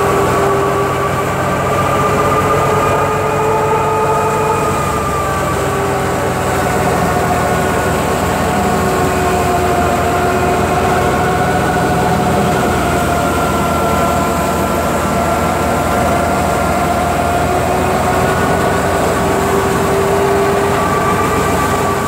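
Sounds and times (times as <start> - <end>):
steady whining tones: 0.0 - 22.0
thresher mechanical drone: 0.0 - 22.0.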